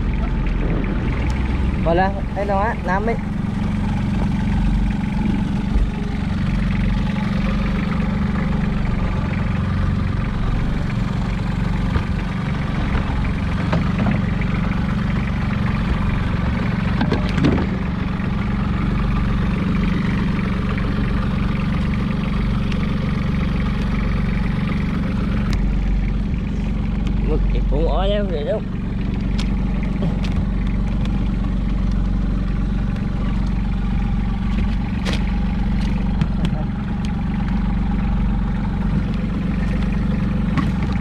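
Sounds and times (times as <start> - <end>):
boat engine running: 0.0 - 41.0.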